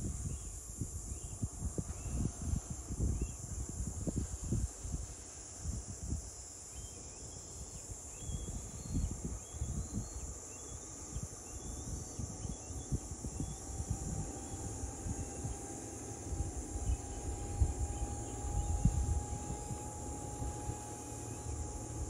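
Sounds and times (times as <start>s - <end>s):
wind buffeting microphone: 0.0s - 6.3s, 7.4s - 22.0s
insects hissing: 0.0s - 22.0s.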